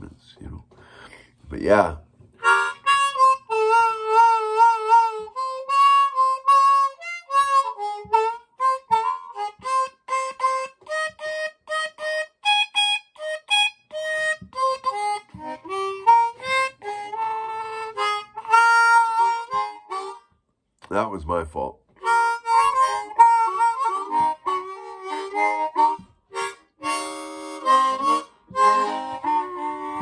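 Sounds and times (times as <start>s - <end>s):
blues harmonica: 2.4s - 20.4s, 22.0s - 30.0s.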